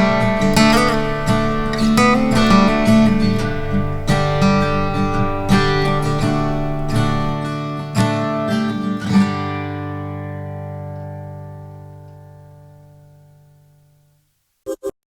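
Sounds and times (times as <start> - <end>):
acoustic guitar strumming: 0.0 - 14.2.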